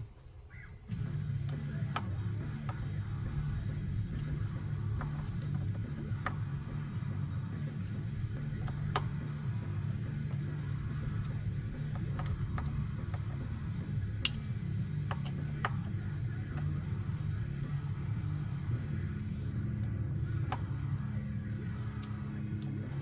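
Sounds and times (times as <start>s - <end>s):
metal bike parts clicking: 0.0s - 23.0s
steady low hum: 0.0s - 23.0s.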